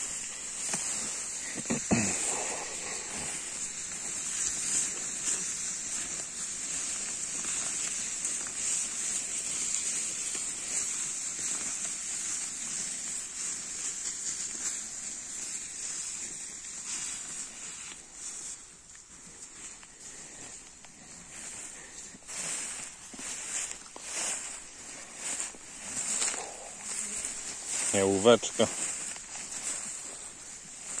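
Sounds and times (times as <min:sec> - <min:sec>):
tall grass swishing: 0:00.0 - 0:31.0.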